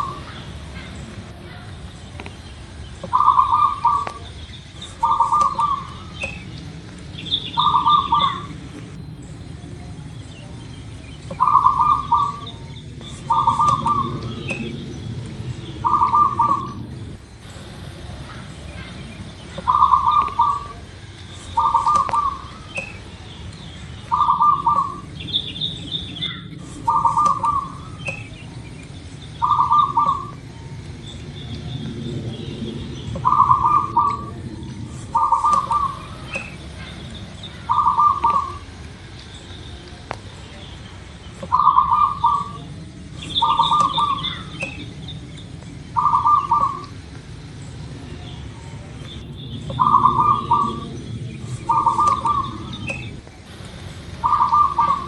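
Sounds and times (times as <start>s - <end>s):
dove cooing: 0.0s - 38.8s, 41.4s - 45.3s, 45.9s - 47.1s, 47.8s - 55.0s
bird chirps: 0.0s - 53.3s, 54.2s - 55.0s
low background noise: 0.0s - 55.0s.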